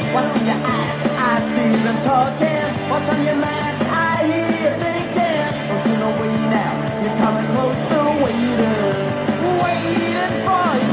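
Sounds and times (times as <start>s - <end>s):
rock song with singing: 0.0s - 10.9s.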